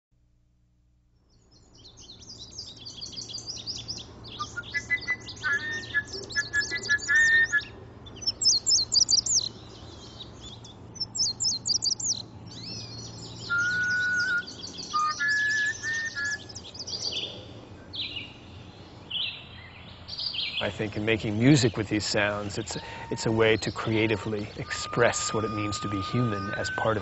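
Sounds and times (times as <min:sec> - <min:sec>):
songbirds singing and chirping: 0:01.2 - 0:27.0.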